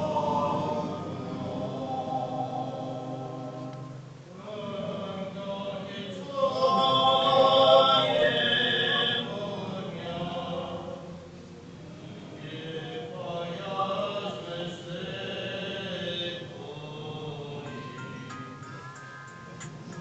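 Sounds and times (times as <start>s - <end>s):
choir chanting long notes: 0.0s - 19.9s.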